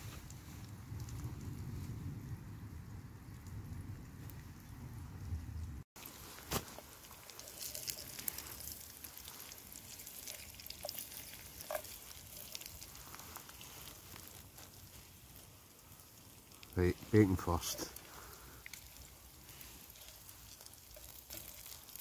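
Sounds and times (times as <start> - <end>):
light rain pattering: 0.0 - 22.0.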